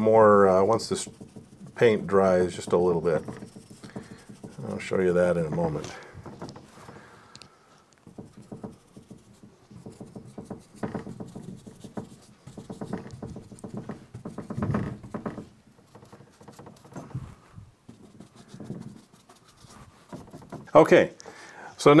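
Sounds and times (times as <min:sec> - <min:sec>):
paintbrush dabbing soft taps: 0:00.0 - 0:07.2, 0:08.0 - 0:21.0.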